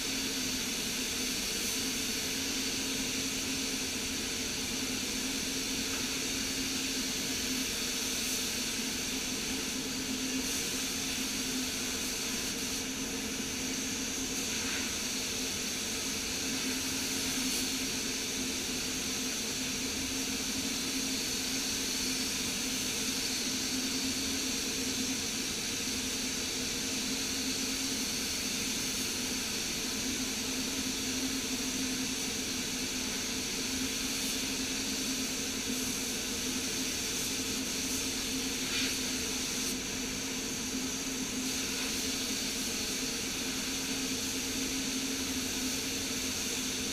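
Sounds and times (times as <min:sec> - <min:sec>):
spray gun hissing: 0:00.0 - 0:46.9.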